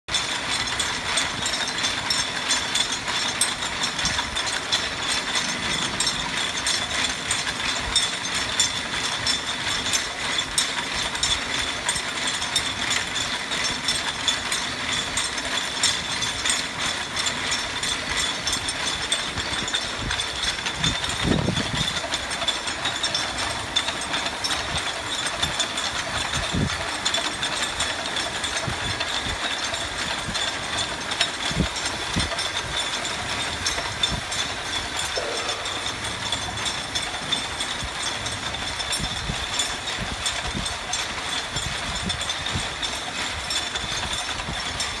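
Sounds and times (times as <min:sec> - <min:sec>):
braiding machine clattering: 0:00.1 - 0:45.0.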